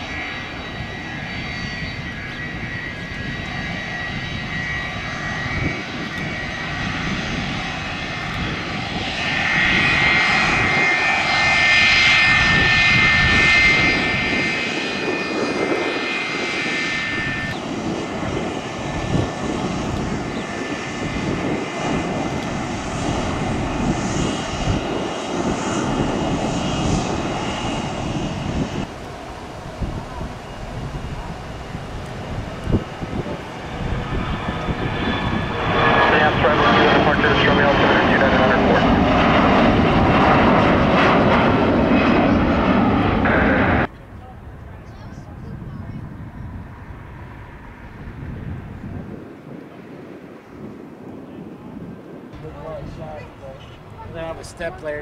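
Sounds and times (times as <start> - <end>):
jet airliner engines passing: 0.0 - 55.0.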